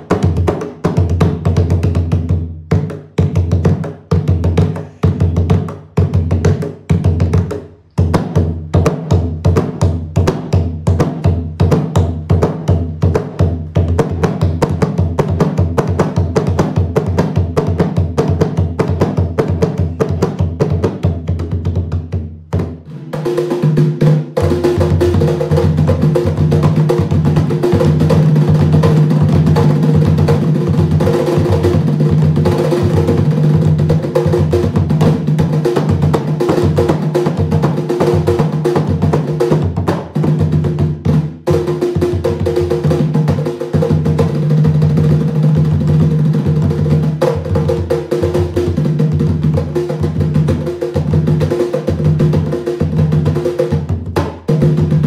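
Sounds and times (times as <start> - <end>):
hand drums playing: 0.0 - 55.0.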